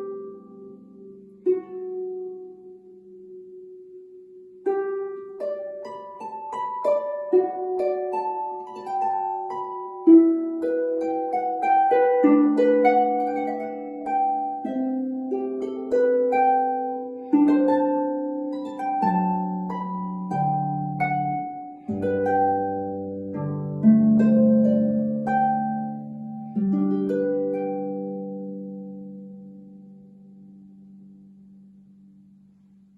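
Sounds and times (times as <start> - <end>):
solo harp playing: 0.0 - 32.9.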